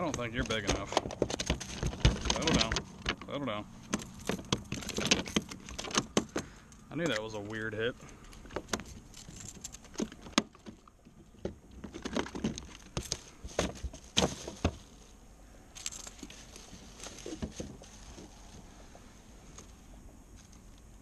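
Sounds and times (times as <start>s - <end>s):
fish handled on plastic deck: 0.0s - 7.3s, 8.0s - 15.2s, 15.8s - 20.8s.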